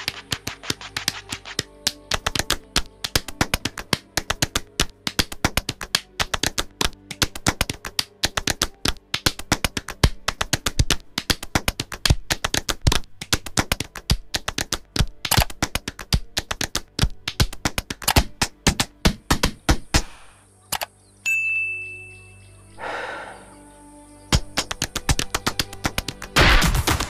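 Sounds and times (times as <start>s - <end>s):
fast percussive taps and clicks: 0.0s - 20.2s, 24.3s - 27.0s.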